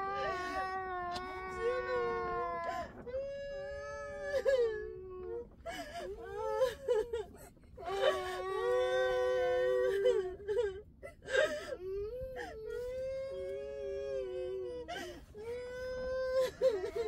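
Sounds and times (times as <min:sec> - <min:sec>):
person wailing and sobbing: 0:00.0 - 0:17.0.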